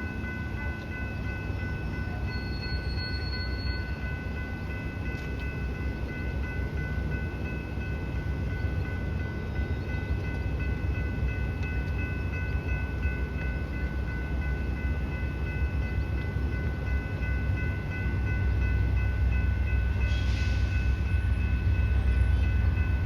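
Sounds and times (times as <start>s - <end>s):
high-pitched tones ringing: 0.0s - 23.0s
train rumbling: 0.0s - 23.0s.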